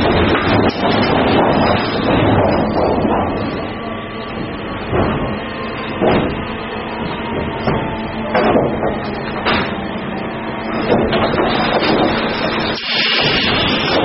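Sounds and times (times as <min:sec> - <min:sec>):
conveyor machinery noise: 0:00.0 - 0:14.0
wooden boards clattering: 0:00.0 - 0:14.0.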